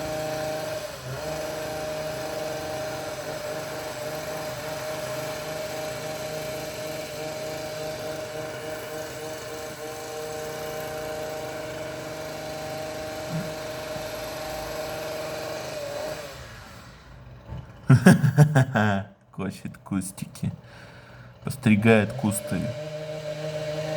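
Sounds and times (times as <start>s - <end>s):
hedge trimmer engine running: 0.0s - 19.0s, 19.6s - 23.9s.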